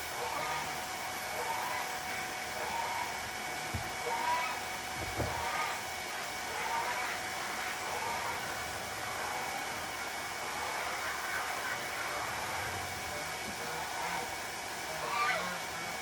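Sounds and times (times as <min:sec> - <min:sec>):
water running from a hose: 0:00.0 - 0:16.0.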